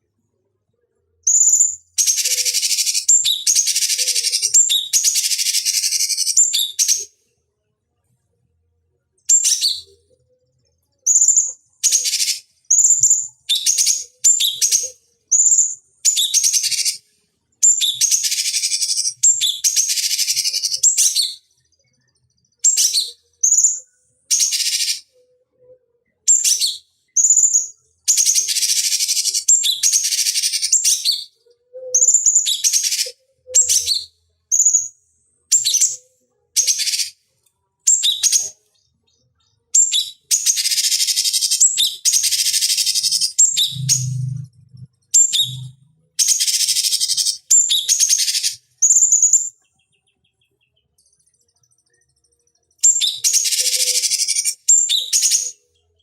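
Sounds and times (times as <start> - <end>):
bird chirping song phrases: 0.7 - 7.1, 9.2 - 37.2, 37.9 - 56.0.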